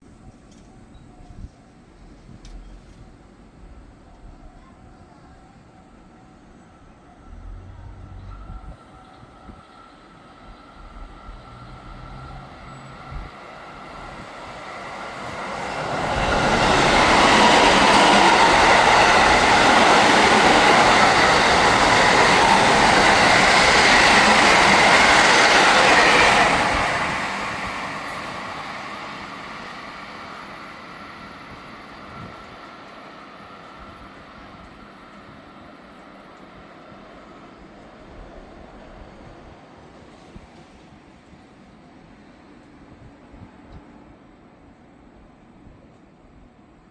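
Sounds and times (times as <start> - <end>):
train wheels on rail: 7.2 - 46.8.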